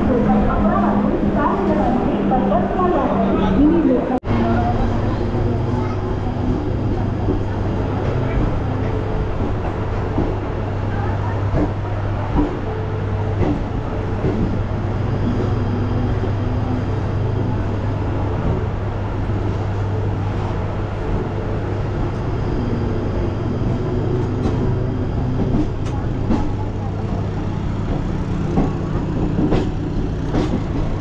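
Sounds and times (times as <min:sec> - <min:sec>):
train rumble and hum: 0:00.0 - 0:31.0.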